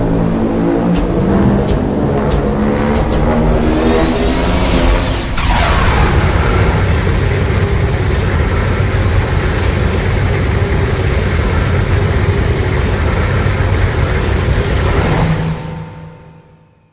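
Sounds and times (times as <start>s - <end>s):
loud dense rumbling blast: 0.0s - 15.6s.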